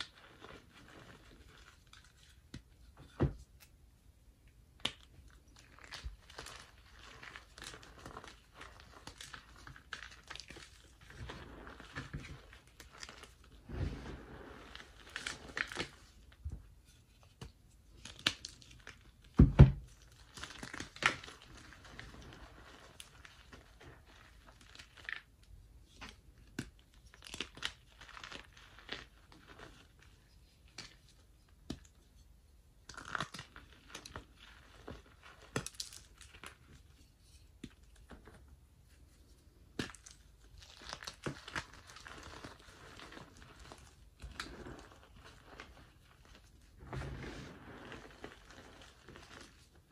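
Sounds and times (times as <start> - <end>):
chalk crunching and crumbling: 0.0 - 3.7, 4.8 - 32.2, 32.8 - 49.9.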